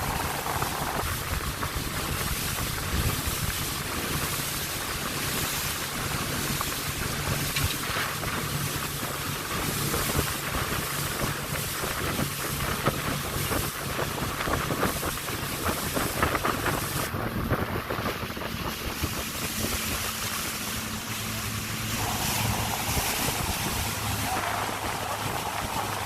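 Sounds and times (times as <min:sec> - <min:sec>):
boat engine running: 0:00.0 - 0:26.0
water noise: 0:00.0 - 0:26.0
wind buffeting microphone: 0:00.0 - 0:26.0.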